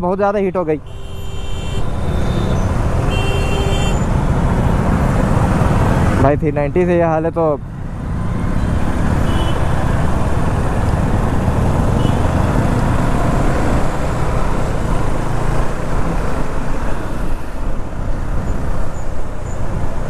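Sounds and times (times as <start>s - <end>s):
road and traffic noise: 0.0s - 20.0s.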